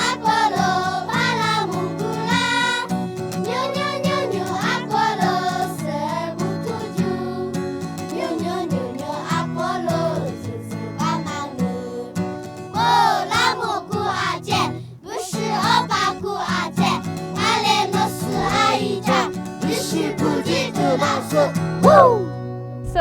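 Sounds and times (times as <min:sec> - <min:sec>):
girls choir singing: 0:00.0 - 0:22.3.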